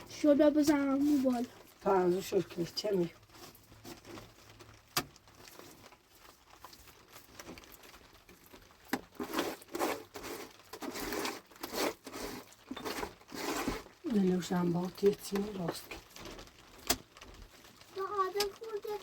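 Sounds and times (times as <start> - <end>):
paper crinkling and tearing: 0.0 - 19.0.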